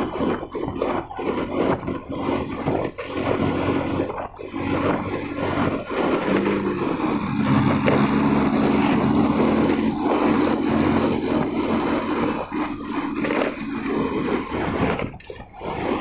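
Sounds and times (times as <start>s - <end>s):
vehicle engine running: 0.0s - 16.0s
wind and road noise: 0.0s - 16.0s.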